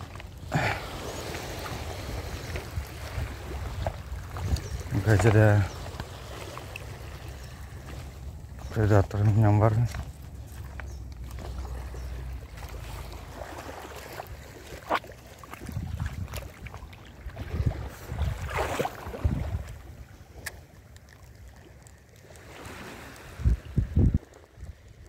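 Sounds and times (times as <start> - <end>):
shallow water sloshing: 0.0 - 25.0
wind rumbling on microphone: 0.0 - 25.0.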